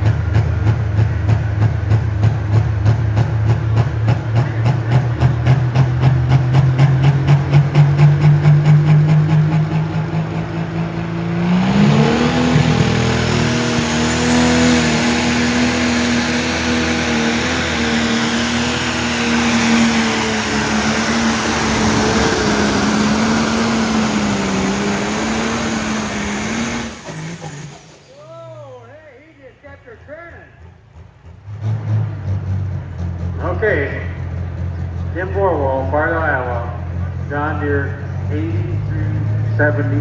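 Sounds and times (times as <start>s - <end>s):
diesel tractor engine revving: 0.0s - 40.0s.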